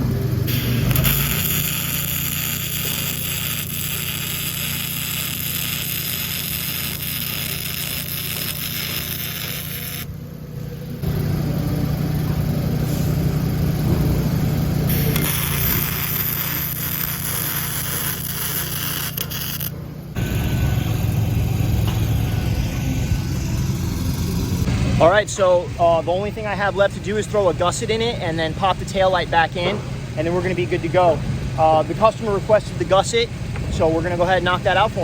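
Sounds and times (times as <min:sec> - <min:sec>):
welder engine running: 0:00.0 - 0:35.0.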